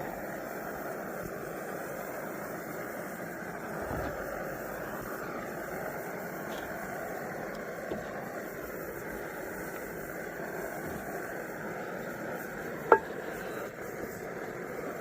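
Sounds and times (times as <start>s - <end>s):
pressurized stove burner burning: 0.0s - 15.0s.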